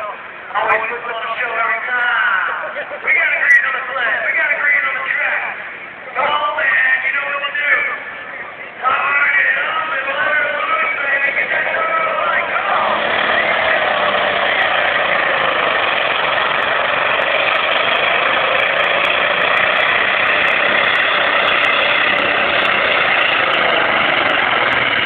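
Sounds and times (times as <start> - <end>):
tractor engine roaring under load: 0.0 - 25.0.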